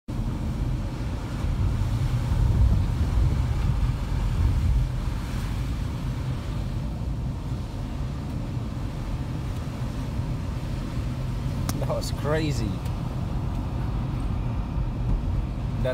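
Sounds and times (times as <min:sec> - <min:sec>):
car engine and tyres rumbling: 0:00.1 - 0:15.9.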